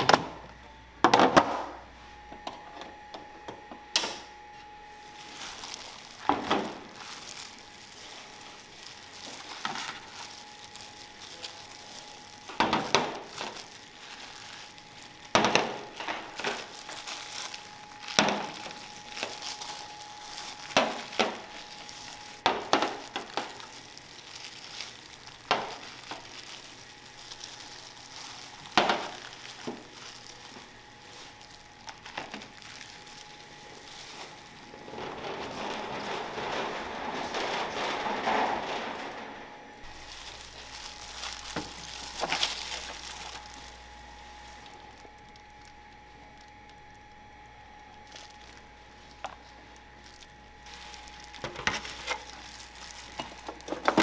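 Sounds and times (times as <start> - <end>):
faint steady hum: 0.0 - 54.0
plastic gloves crinkling: 1.7 - 54.0.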